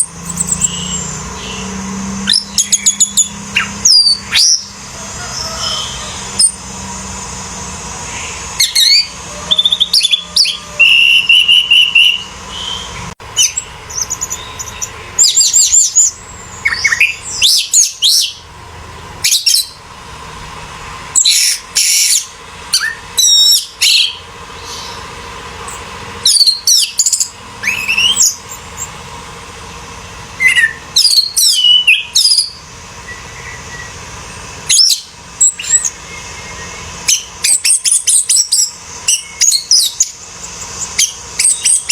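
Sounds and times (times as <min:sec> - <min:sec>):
thrush singing: 0:00.0 - 0:41.9.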